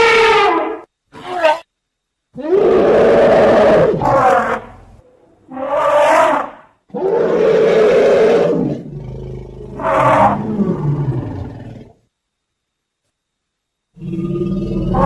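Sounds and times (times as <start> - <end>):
elephant roaring calls: 0.0 - 1.6, 2.4 - 11.9, 14.0 - 15.0.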